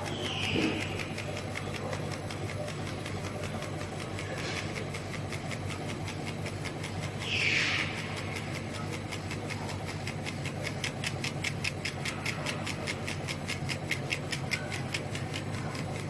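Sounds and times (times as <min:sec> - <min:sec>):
fast even ticking: 0:00.0 - 0:16.0
laser cutter humming: 0:00.0 - 0:16.0.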